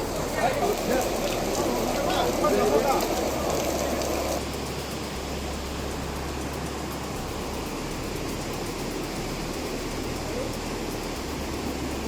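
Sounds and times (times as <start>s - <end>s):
heavy rain rushing: 0.0s - 12.0s
running floodwater: 0.0s - 12.0s.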